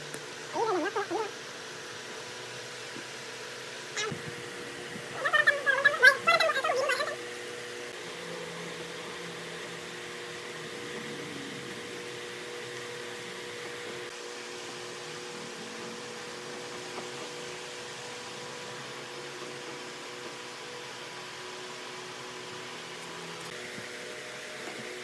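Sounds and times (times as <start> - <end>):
machine hum with steady tones: 0.0 - 25.0.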